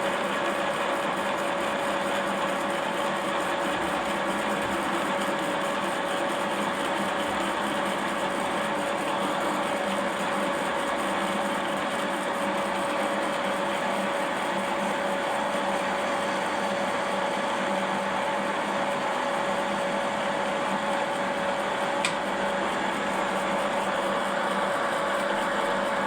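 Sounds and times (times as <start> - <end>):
metal lathe running with whine: 0.0 - 26.0.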